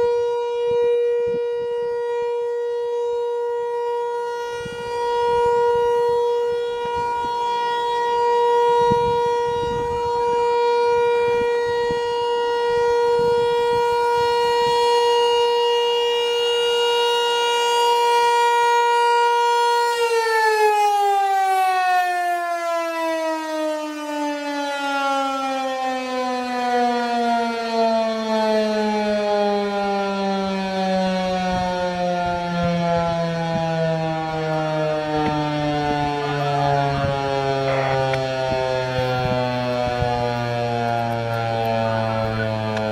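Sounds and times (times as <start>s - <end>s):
warning siren winding down: 0.0s - 42.9s.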